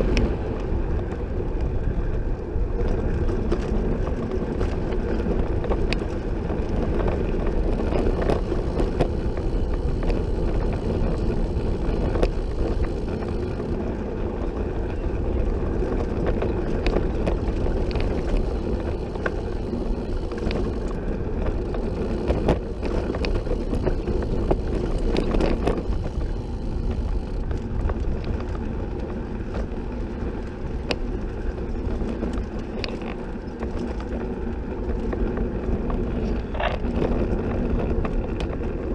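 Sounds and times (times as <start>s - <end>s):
trike clicks and rattles: 0.0s - 38.9s
tyres rumbling on pavement: 0.0s - 38.9s.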